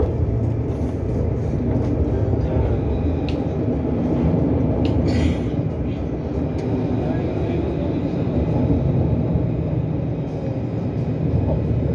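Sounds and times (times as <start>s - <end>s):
tram rumbling on rails: 0.0s - 11.9s.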